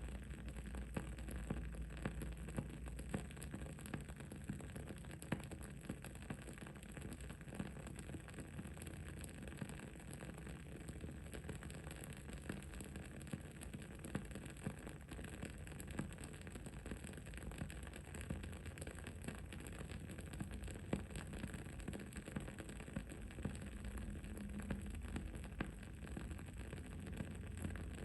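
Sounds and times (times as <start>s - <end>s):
low rumble and hiss: 0.0s - 28.0s.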